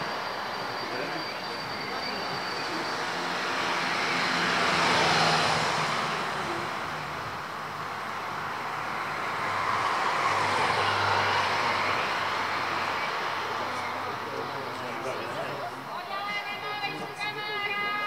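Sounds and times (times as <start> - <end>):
vehicles passing by: 0.0 - 18.0.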